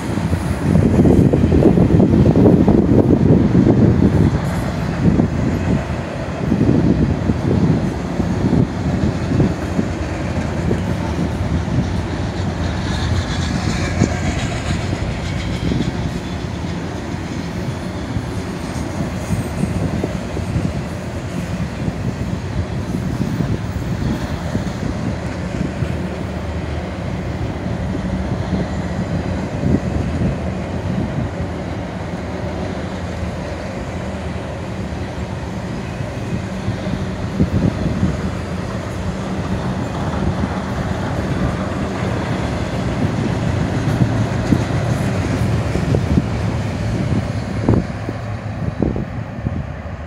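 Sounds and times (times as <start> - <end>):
train clatter: 0.0 - 50.0
train wheels rumbling on rail: 0.0 - 50.0.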